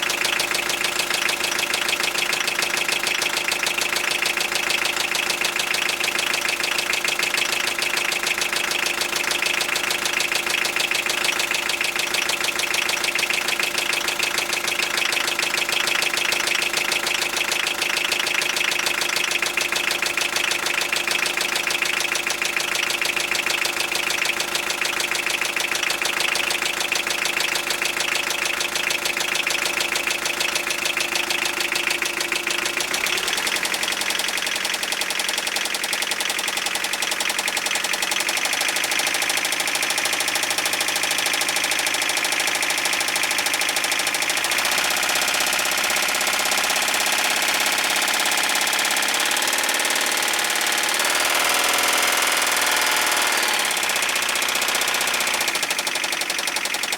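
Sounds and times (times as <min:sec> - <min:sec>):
diesel engine idling with knock: 0:00.0 - 0:56.9.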